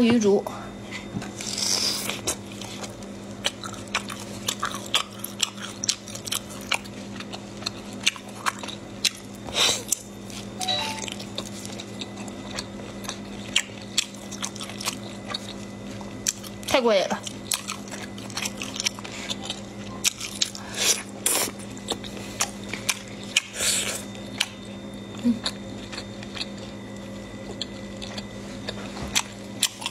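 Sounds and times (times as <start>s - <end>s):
biting and chewing: 1.1s - 29.9s.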